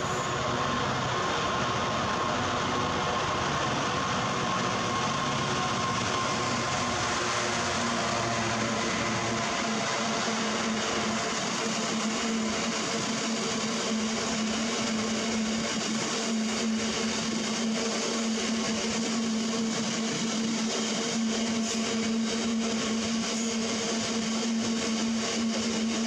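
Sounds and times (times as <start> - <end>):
wheel-on-rail noise: 0.0 - 24.0.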